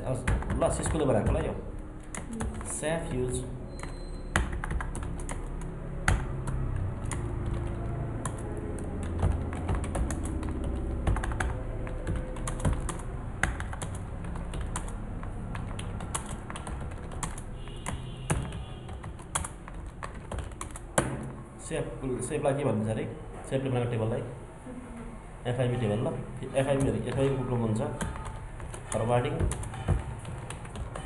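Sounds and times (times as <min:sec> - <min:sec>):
keyboard typing: 0:00.0 - 0:21.4, 0:26.5 - 0:31.0.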